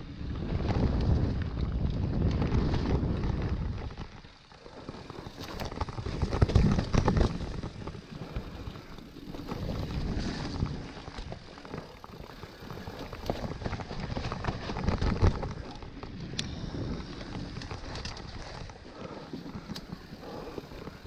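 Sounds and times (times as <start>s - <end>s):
bike rattling over bumps: 0.0s - 21.0s
bike tyres on dirt: 0.0s - 21.0s
wind on microphone: 0.0s - 21.0s.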